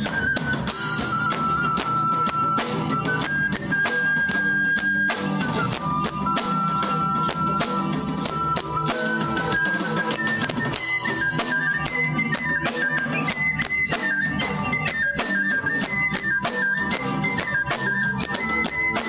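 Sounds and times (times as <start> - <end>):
folk band melody: 0.0 - 19.0
steady drum beat: 0.0 - 19.0.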